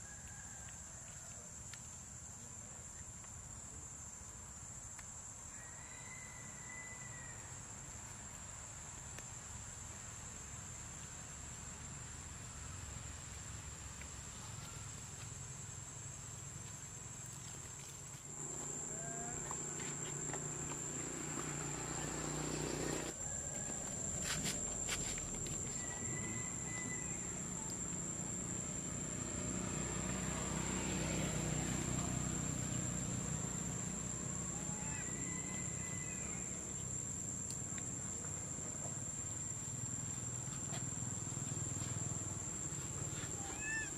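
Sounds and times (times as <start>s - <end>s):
insects droning: 0.0s - 43.9s
outdoor ambience: 0.0s - 43.9s.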